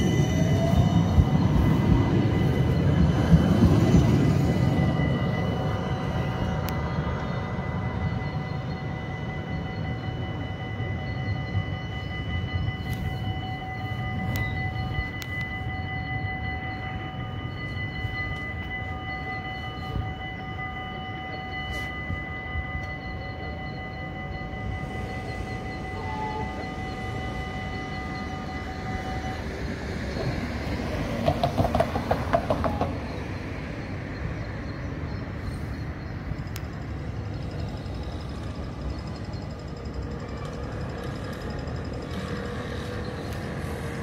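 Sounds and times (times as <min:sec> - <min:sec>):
electric tram rumbling: 0:00.0 - 0:44.0
steady high whine: 0:00.0 - 0:44.0.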